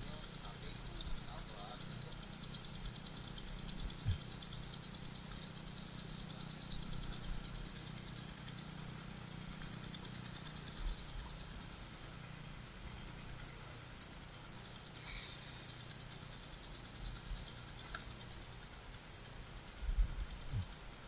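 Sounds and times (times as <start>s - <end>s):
small engine humming: 0.0s - 21.0s.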